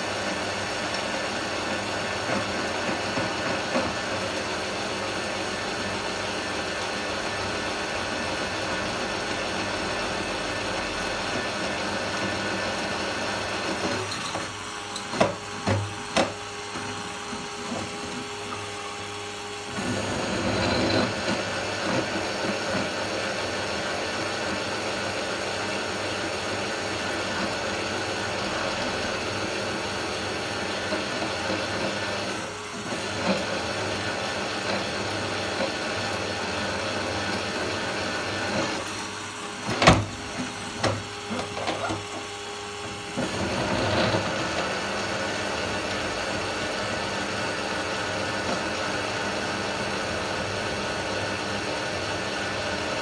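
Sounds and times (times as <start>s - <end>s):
drill press drilling metal: 0.0s - 53.0s.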